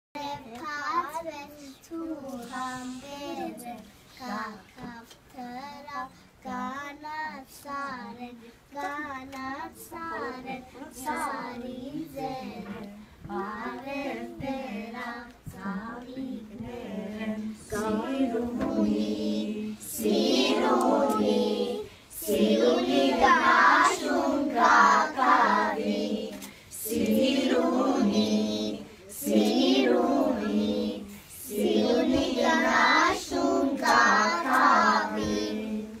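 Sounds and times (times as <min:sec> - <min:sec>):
children singing unaccompanied: 0:00.2 - 0:36.0.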